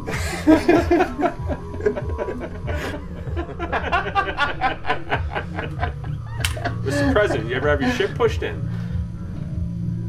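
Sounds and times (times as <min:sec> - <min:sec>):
man chuckling: 0:00.0 - 0:08.1
background music with bass beat: 0:00.0 - 0:10.0.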